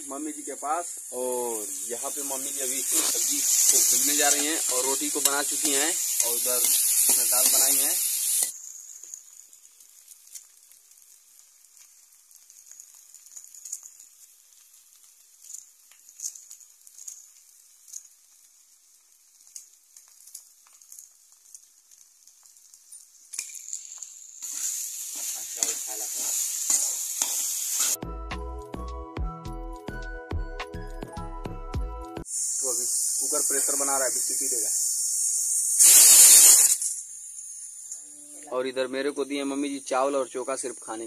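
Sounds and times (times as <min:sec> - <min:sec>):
vegetables sizzling in a pan: 0:00.0 - 0:28.0, 0:32.2 - 0:41.0.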